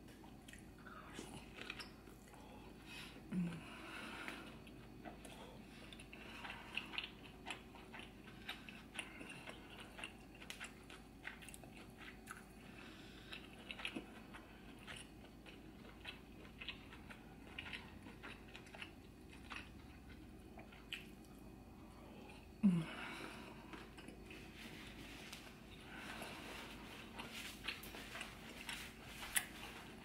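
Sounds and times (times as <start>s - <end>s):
wet chewing and mouth smacking: 0.1s - 2.5s, 4.4s - 21.6s, 23.6s - 30.0s.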